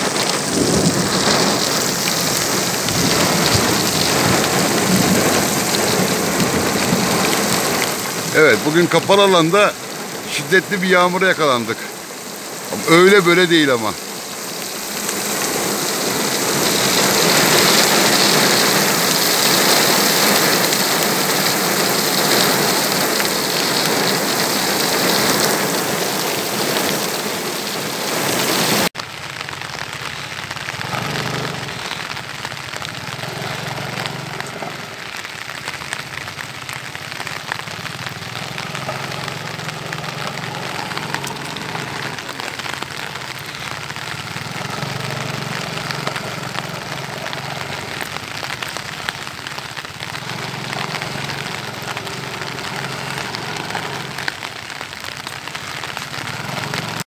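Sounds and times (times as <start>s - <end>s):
heavy rain on paving: 0.0s - 57.0s.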